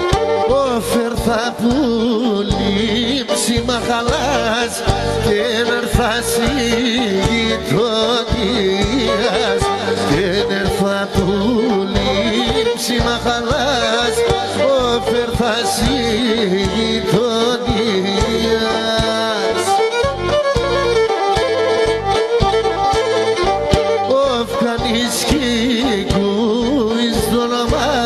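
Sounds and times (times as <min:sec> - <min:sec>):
bowed lyra melody: 0:00.0 - 0:28.0
steady drum beat: 0:01.2 - 0:26.6.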